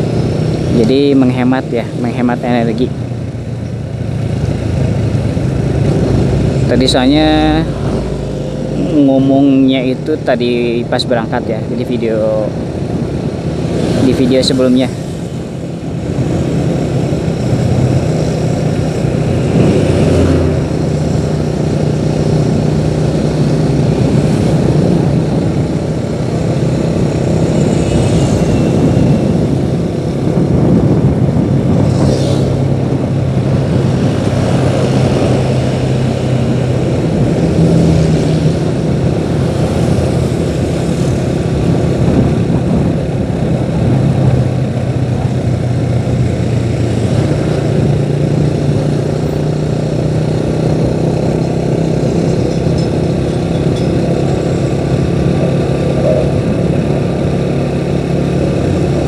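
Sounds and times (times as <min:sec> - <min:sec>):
road and wind noise: 0:00.0 - 0:59.0
vehicle engine running: 0:00.0 - 0:59.0.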